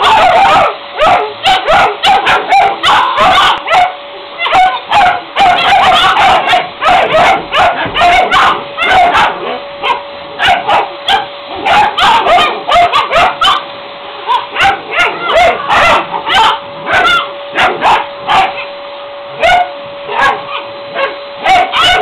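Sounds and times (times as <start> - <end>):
puppies barking and yapping: 0.0 - 18.8, 19.4 - 22.0
vacuum cleaner humming: 0.0 - 22.0.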